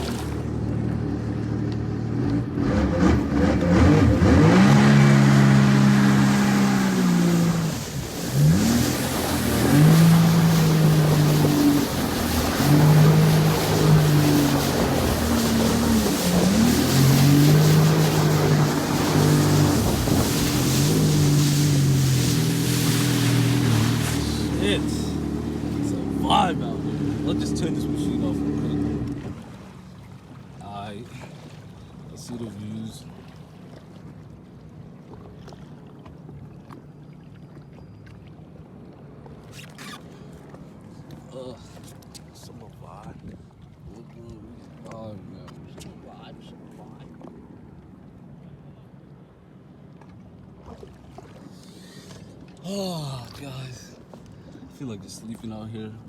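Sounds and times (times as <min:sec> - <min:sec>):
jet ski engine running: 0:00.0 - 0:56.0
small waves lapping against hull: 0:00.0 - 0:56.0.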